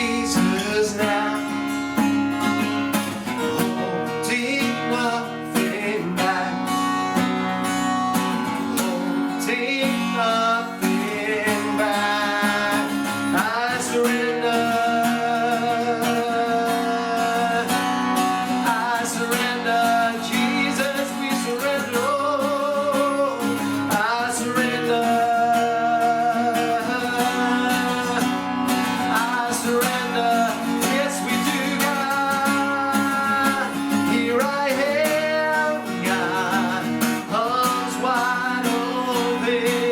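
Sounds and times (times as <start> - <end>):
acoustic guitar chords: 0.0 - 39.9.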